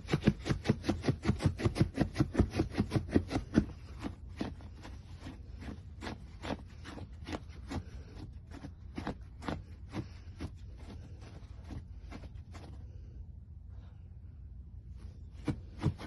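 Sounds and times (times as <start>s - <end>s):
dog scratching at bedding: 0.0s - 12.8s, 15.3s - 16.0s
steady low hum: 0.0s - 16.0s.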